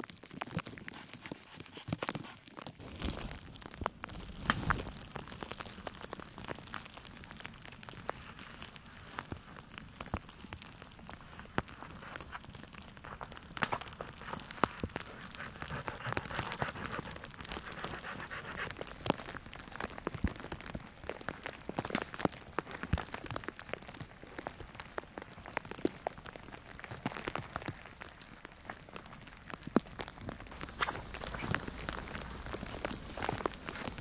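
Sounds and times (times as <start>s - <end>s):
meltwater drips pattering: 0.0s - 34.0s
soft steady hiss: 0.0s - 34.0s.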